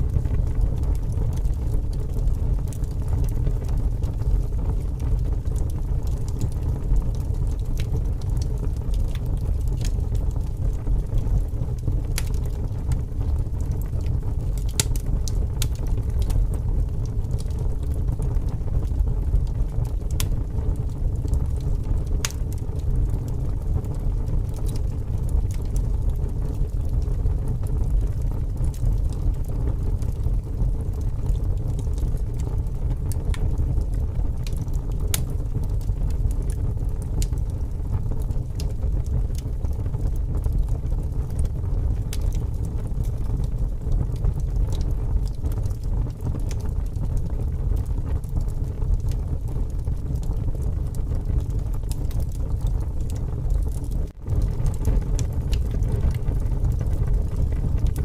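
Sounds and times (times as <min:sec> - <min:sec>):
strong wind rumbling: 0:00.0 - 0:58.0
wood fire crackling and popping: 0:00.0 - 0:58.0.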